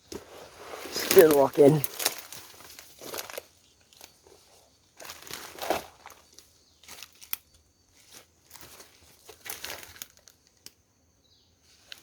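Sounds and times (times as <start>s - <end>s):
footsteps crunching dry leaves: 0.0s - 10.3s.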